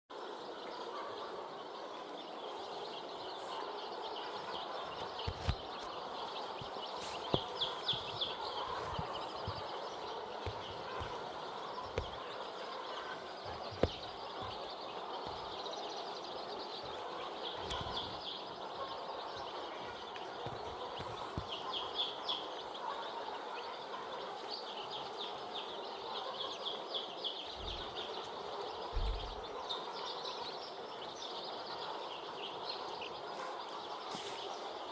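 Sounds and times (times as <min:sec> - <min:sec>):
chicks peeping: 0:00.5 - 0:34.8.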